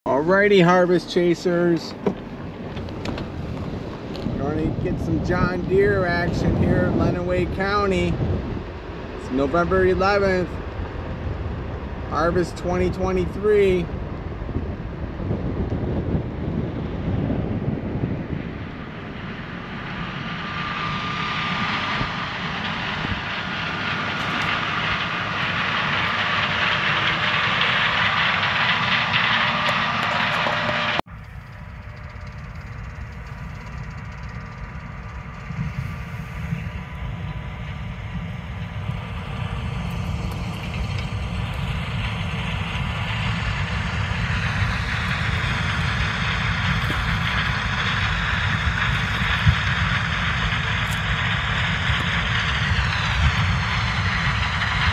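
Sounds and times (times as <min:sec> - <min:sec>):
car road and wind noise: 0:00.1 - 0:54.9
combine harvester droning: 0:00.1 - 0:54.9.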